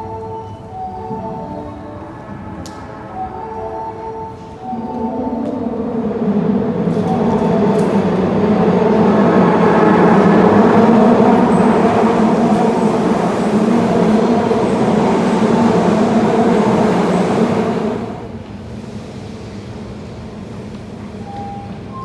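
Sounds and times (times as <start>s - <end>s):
subway train rumbling through station: 0.0s - 22.0s.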